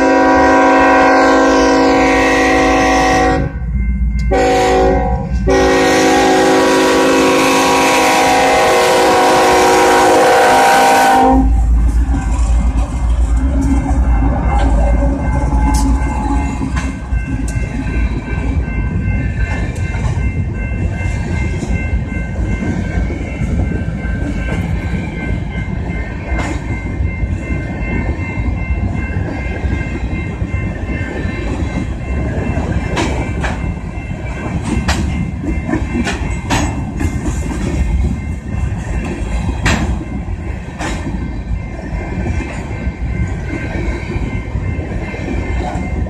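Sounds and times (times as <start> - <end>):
diesel locomotives rumbling: 0.0 - 46.0
train wheels clacking on rails: 0.0 - 46.0.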